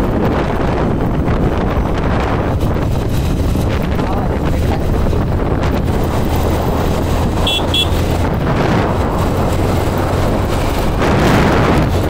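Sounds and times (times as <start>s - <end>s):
motorcycle riding: 0.0s - 12.0s
wind noise on microphone: 0.0s - 12.0s.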